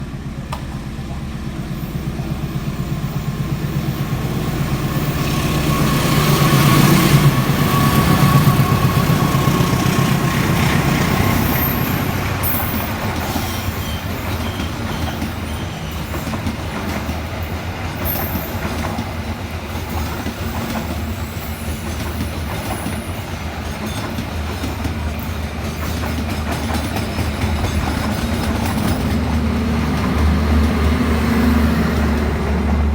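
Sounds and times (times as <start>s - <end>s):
train passing with clattering wheels: 0.0s - 32.9s.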